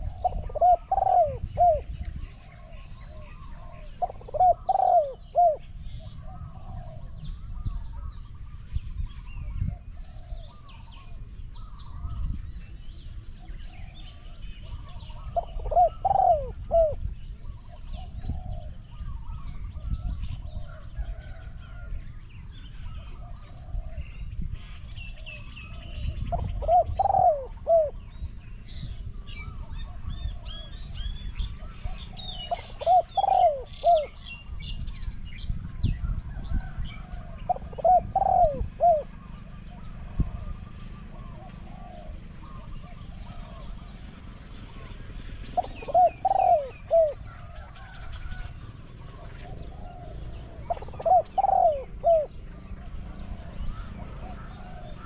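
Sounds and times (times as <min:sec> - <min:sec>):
dove cooing: 0:00.0 - 0:08.1, 0:13.7 - 0:21.9, 0:22.7 - 0:24.3, 0:25.2 - 0:28.2, 0:29.4 - 0:34.5, 0:36.4 - 0:55.0
small birds chirping: 0:00.0 - 0:55.0.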